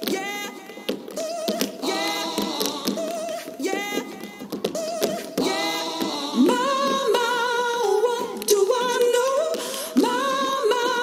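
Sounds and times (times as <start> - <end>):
high voice singing with vibrato: 0.0 - 11.0
tap shoes clicking on stage: 0.0 - 11.0.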